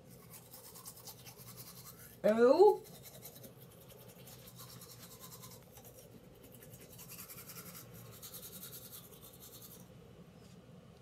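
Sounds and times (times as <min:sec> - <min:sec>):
toothbrush scrubbing teeth: 0:00.0 - 0:09.9.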